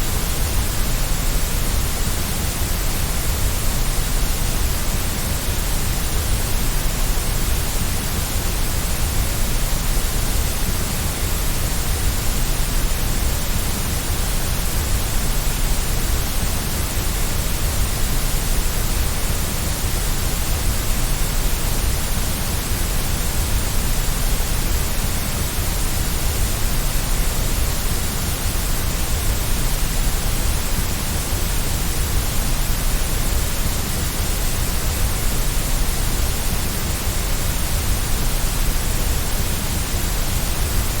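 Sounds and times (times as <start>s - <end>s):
steady white noise: 0.0s - 41.0s.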